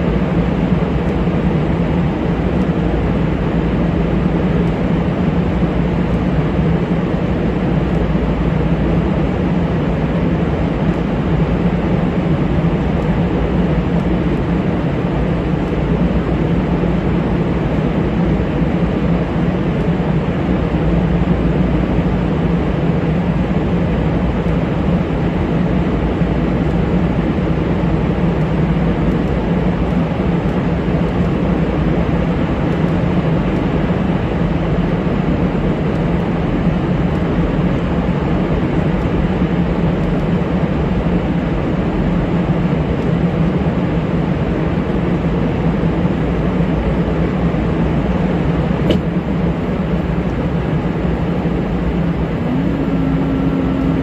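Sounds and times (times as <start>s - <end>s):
aircraft engine and airflow drone: 0.0s - 54.0s.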